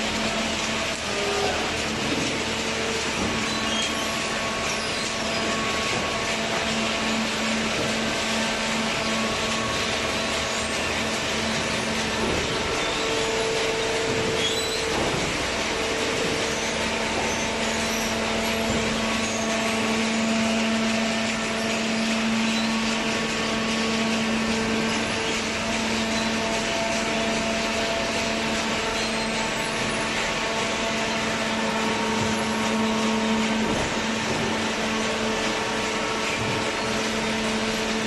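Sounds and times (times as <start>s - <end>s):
hydraulic power unit humming: 0.0s - 38.0s.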